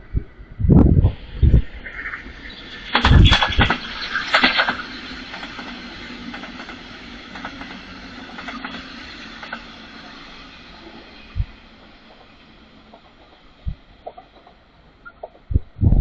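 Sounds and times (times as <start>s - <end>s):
train wheels clattering: 1.7s - 15.5s.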